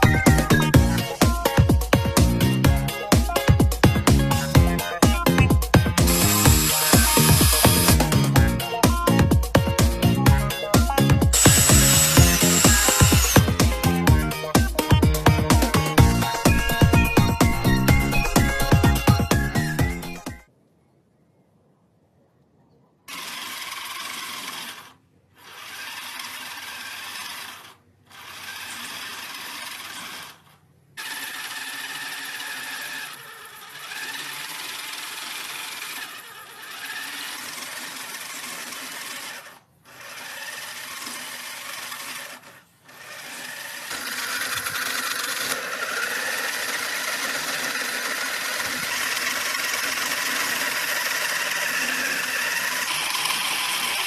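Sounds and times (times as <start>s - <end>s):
small electric motor whining: 0.0s - 20.4s, 23.1s - 54.0s.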